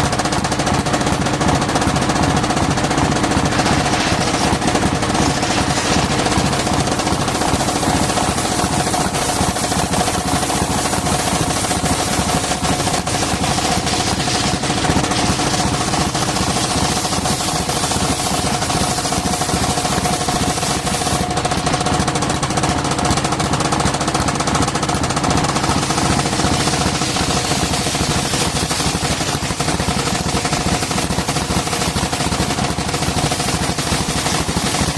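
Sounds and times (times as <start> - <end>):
engine firing rapidly: 0.0 - 34.9.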